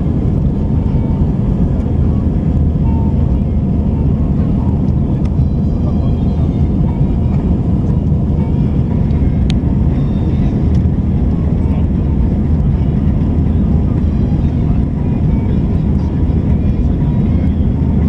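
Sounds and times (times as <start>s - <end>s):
airliner engines rumbling: 0.0s - 18.0s.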